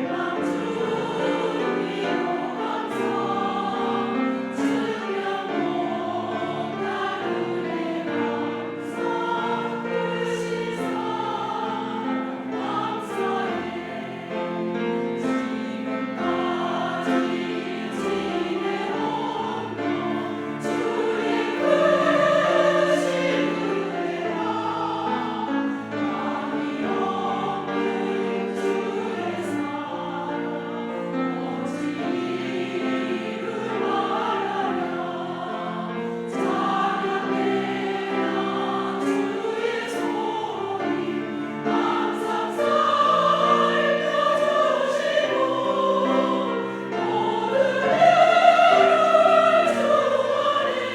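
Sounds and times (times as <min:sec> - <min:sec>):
church choir singing a hymn: 0:00.0 - 0:50.9.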